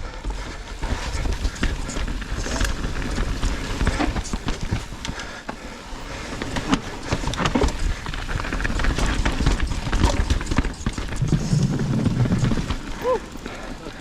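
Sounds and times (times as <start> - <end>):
bike tyres rumbling: 0.0 - 14.0
bike frame rattling: 0.1 - 14.0.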